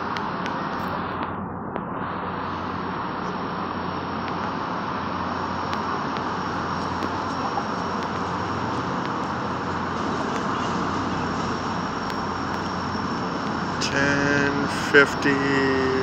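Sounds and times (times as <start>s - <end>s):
diesel locomotive engine drone: 0.0s - 16.0s
thin high whine: 0.0s - 16.0s.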